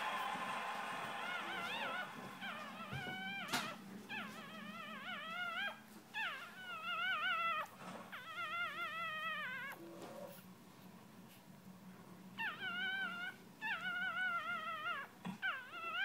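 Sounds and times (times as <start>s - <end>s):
puppy whining: 0.1s - 10.6s, 12.3s - 16.0s.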